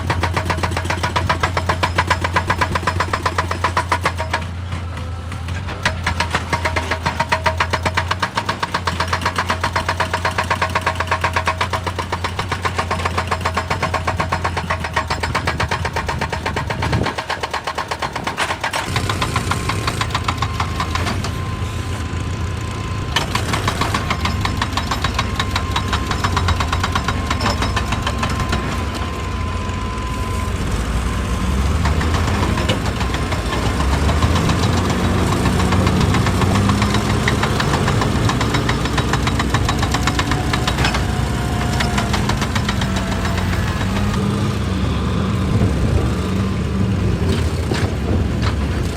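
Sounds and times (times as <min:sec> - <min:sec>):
diesel machinery knocking and humming: 0:00.0 - 0:48.9.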